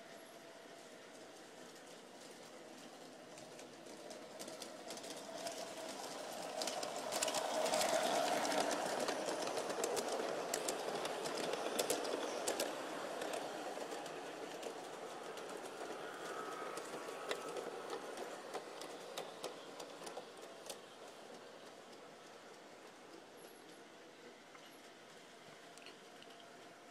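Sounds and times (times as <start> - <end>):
model train motor hum: 0.0 - 26.9
wheels clicking over rail joints: 1.2 - 26.9.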